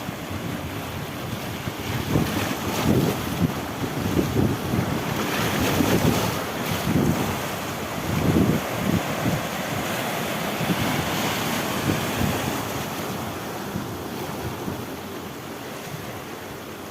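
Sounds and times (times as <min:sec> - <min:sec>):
waves breaking on rocky shore: 0:00.0 - 0:16.9
wind buffeting microphone: 0:00.2 - 0:16.2.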